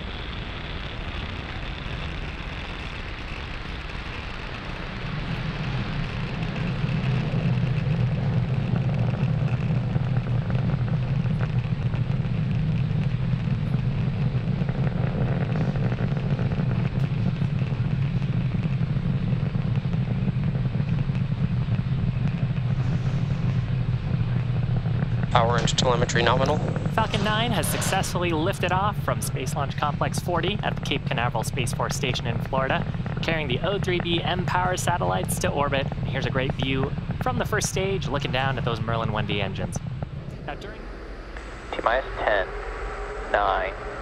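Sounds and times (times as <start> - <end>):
rocket engines rumbling: 0.0 - 44.0.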